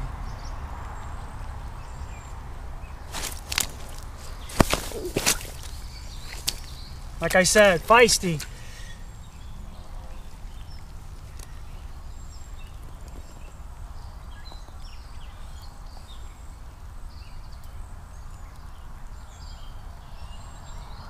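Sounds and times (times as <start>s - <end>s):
small birds chirping: 0.2s - 21.0s.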